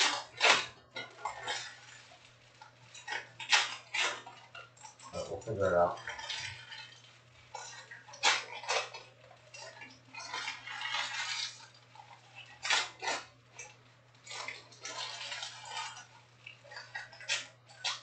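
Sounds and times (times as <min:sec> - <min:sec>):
foil packs crinkling and rustling: 0:00.0 - 0:18.0.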